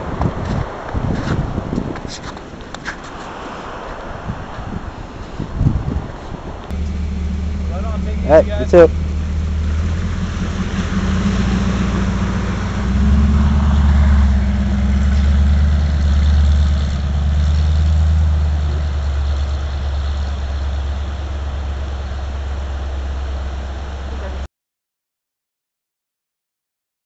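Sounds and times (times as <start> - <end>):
vehicle engine rumbling: 0.0 - 24.5.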